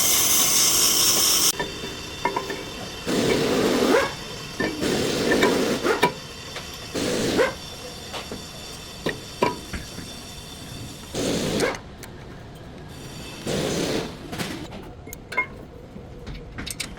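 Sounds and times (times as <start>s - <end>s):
scraping hissing noise: 0.0s - 11.8s, 12.9s - 14.7s.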